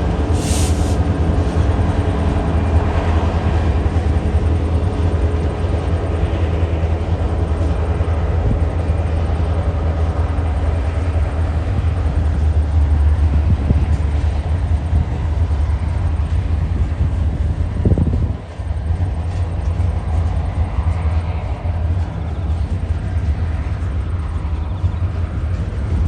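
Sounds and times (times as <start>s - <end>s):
diesel locomotive engine droning: 0.0s - 26.0s.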